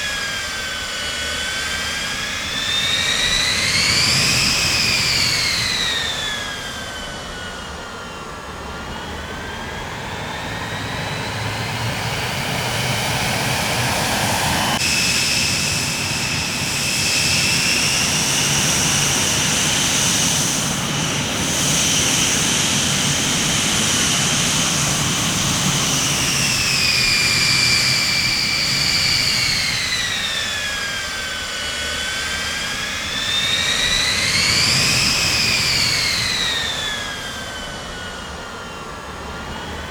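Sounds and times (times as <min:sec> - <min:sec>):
high engine whine: 0:00.0 - 0:39.9
jet engines rushing: 0:00.0 - 0:39.9.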